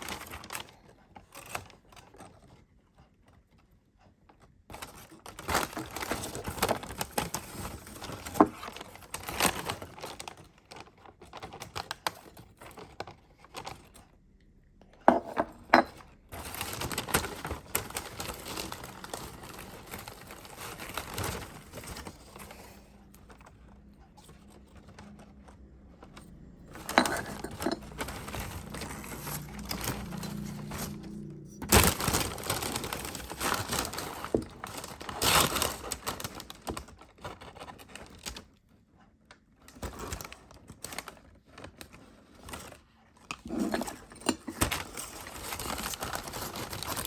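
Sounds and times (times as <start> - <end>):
crinkling rustle: 0.0 - 14.2, 15.8 - 47.0.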